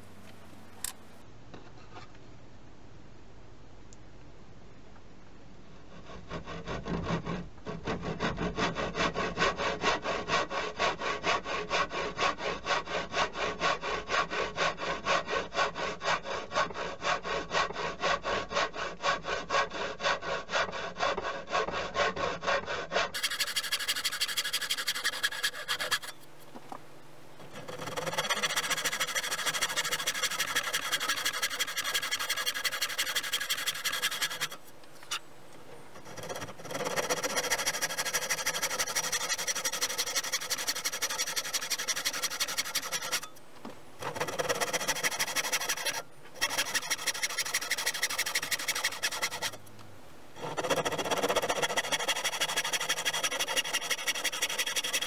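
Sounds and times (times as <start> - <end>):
hand tool scraping wood: 5.9 - 26.8, 27.4 - 43.4, 44.0 - 49.6, 50.4 - 55.0.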